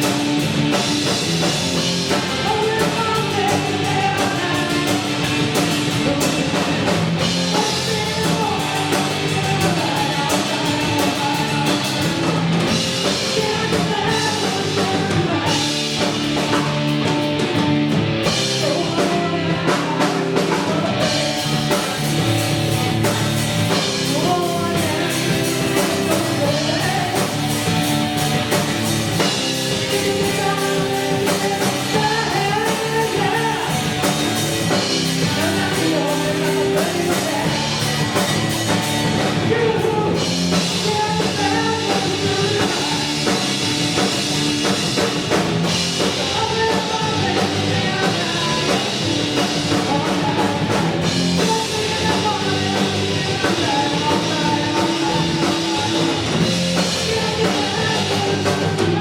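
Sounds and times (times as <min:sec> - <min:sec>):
person singing: 0:00.0 - 0:45.1, 0:45.7 - 0:59.0
drum kit: 0:00.0 - 0:59.0
electric guitar: 0:00.0 - 0:59.0.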